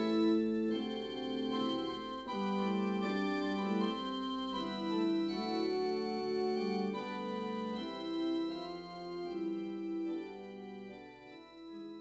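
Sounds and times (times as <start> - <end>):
slow keyboard chords: 0.0 - 12.0.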